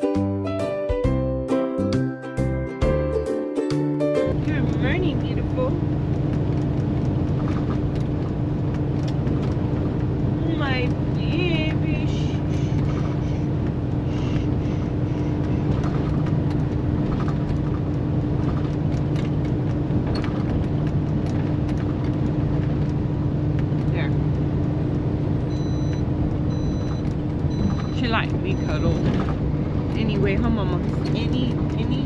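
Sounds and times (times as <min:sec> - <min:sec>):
truck engine and road drone: 0:00.0 - 0:32.0
constant low hum: 0:04.3 - 0:32.0.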